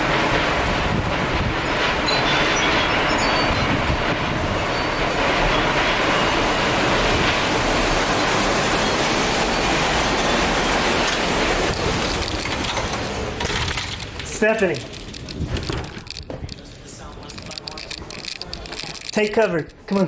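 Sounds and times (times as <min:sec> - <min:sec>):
tornado wind rushing: 0:00.0 - 0:19.9.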